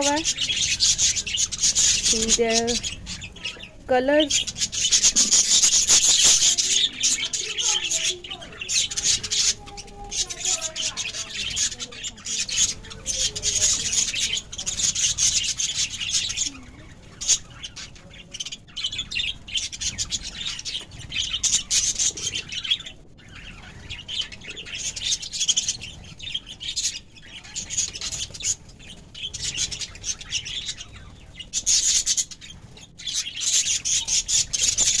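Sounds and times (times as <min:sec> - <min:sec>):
budgerigars twittering: 0:00.0 - 0:35.0.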